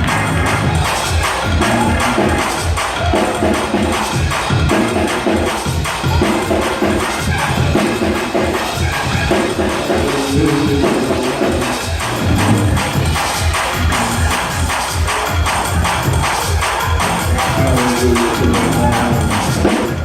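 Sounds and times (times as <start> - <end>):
fast church praise music: 0.0 - 20.0.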